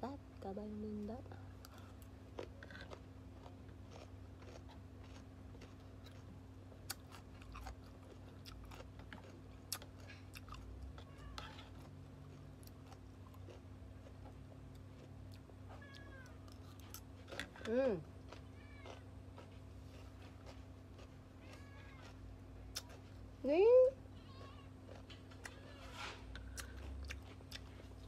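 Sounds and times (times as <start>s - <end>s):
chewing crunchy cucumber: 1.5s - 23.4s, 24.2s - 28.0s.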